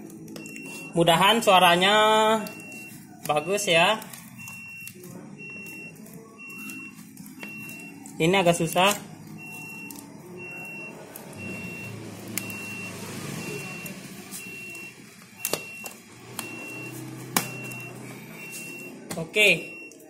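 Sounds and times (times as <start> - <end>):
high electronic beep: 0.3 - 20.0.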